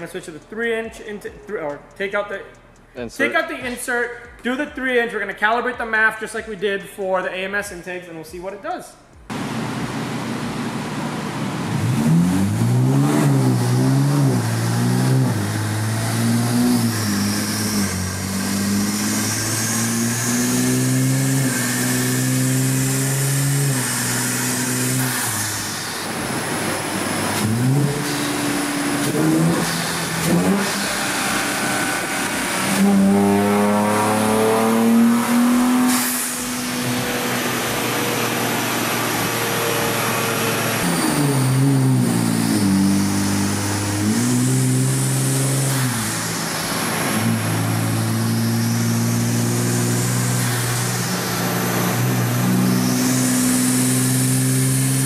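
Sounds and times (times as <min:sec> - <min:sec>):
car engine revving on dyno: 0:09.2 - 0:55.0.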